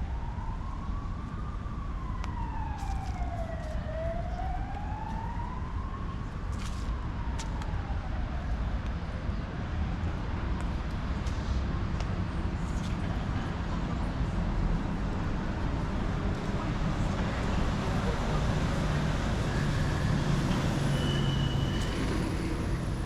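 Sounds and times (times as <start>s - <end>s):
emergency siren wailing: 0.0s - 10.8s, 13.6s - 23.0s.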